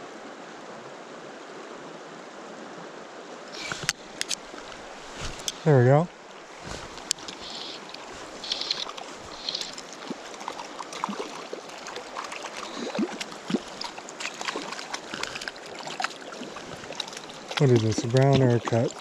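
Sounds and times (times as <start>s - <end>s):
river water running over rocks: 0.0s - 19.0s
small water splashes: 3.5s - 19.0s.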